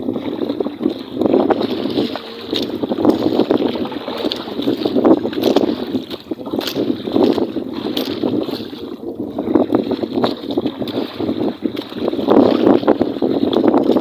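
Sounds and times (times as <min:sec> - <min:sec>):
water lapping around boat: 0:00.0 - 0:14.0
wind buffeting microphone: 0:00.0 - 0:14.0.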